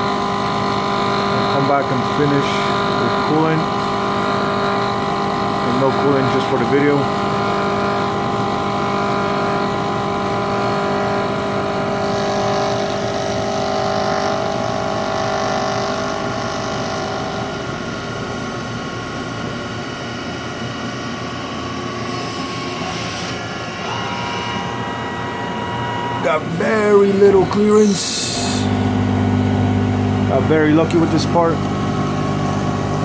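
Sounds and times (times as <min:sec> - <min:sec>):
milling machine whine: 0:00.0 - 0:33.0.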